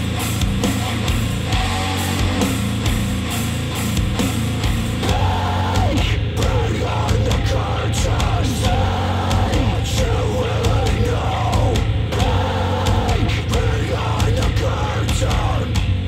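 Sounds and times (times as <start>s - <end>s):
rock music through speakers: 0.0s - 16.0s.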